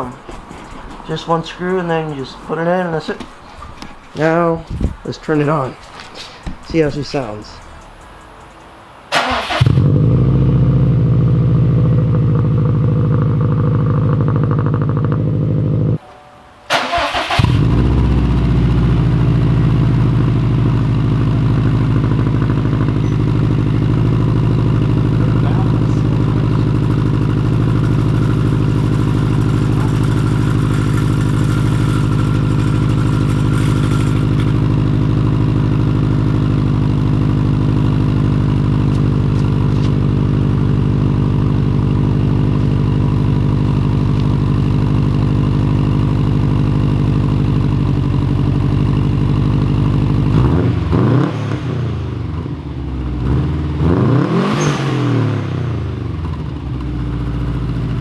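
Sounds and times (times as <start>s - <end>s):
car engine idling and revving: 7.5s - 16.0s, 16.7s - 58.0s.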